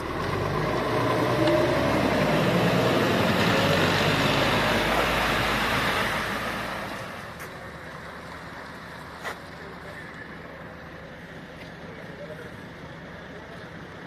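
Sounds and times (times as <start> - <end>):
fire engine driving past: 0.0 - 14.0.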